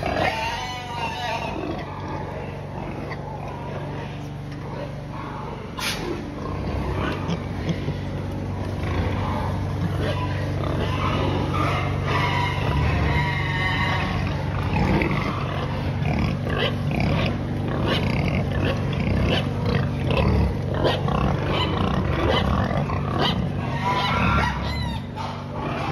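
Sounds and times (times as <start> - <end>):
pigs grunting and snuffling: 0.0 - 25.9
steady low hum: 0.0 - 25.9.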